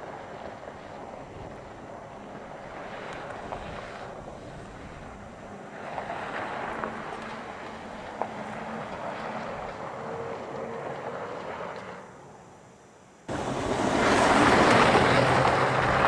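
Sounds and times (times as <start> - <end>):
tyre and wind noise on gravel: 0.0 - 12.1, 13.3 - 16.0.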